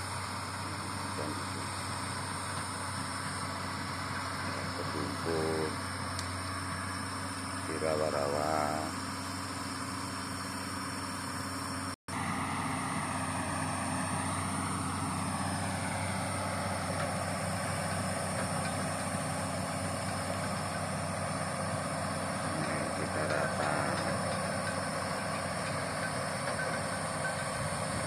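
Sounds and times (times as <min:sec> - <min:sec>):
excavator diesel engine running: 0:00.0 - 0:28.0
wavering high whine: 0:00.0 - 0:28.0.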